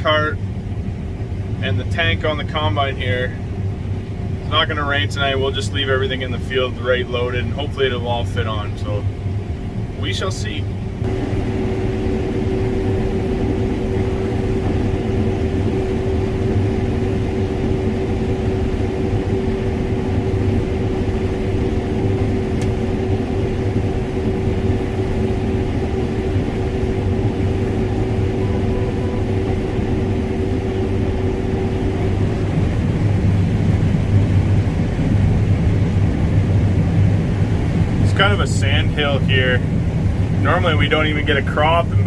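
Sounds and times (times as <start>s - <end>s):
combine harvester engine drone: 0.0s - 42.0s
constant machine whine: 0.0s - 42.0s.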